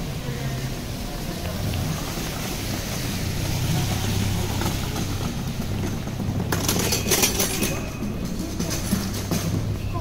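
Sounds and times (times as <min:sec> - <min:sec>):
traffic engine hum: 0:00.0 - 0:10.0.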